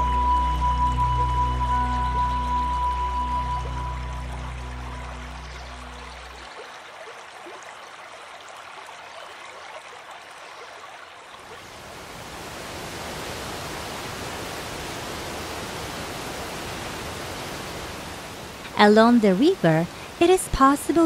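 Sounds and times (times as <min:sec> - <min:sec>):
river water flowing over stones: 0:00.0 - 0:21.0.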